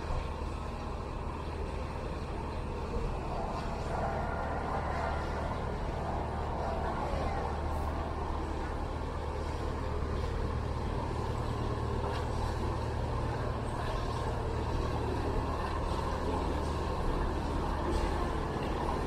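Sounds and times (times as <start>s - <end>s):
boat diesel engine chugging: 0.0s - 19.0s.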